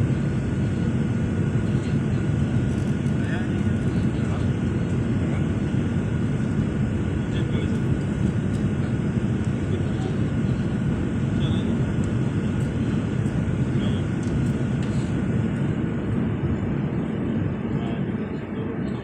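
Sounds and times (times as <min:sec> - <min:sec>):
faint steady whine: 0:00.0 - 0:19.0
jet engines and airflow rushing: 0:00.0 - 0:19.0.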